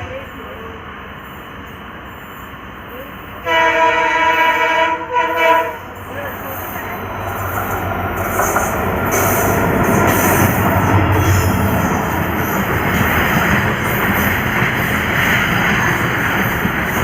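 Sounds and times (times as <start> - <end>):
train wagons rumbling on rails: 0.0 - 17.0.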